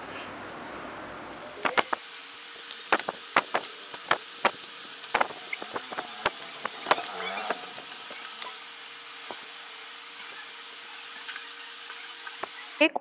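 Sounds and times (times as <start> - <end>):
crispy food crackling: 1.4 - 12.8.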